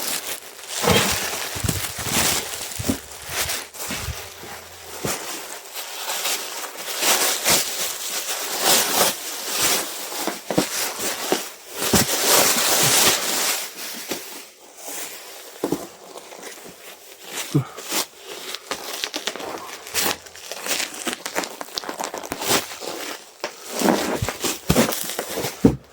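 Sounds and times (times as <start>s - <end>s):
packing materials rustling: 0.0s - 10.3s, 14.9s - 25.9s.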